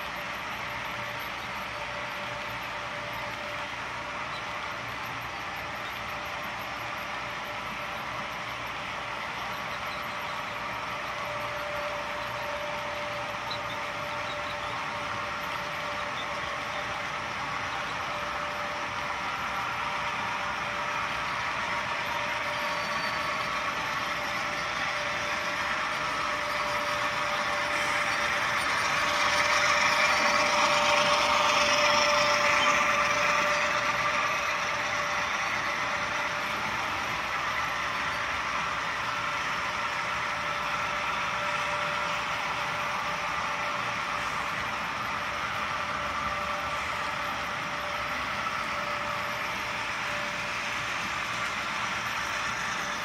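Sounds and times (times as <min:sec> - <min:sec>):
model train wheels rumbling on track: 0:00.0 - 0:53.0.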